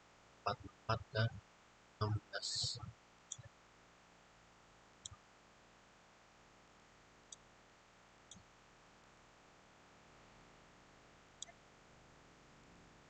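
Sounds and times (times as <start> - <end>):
low steady hiss: 0.0 - 13.0.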